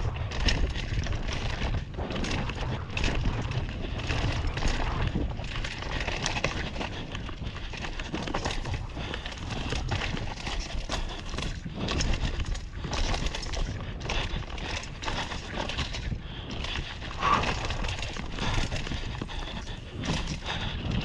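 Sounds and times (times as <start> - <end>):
bike clicks and rattles: 0.0 - 21.0
bike tyres rolling over dirt: 0.0 - 21.0
wind rumble on microphone: 0.0 - 21.0.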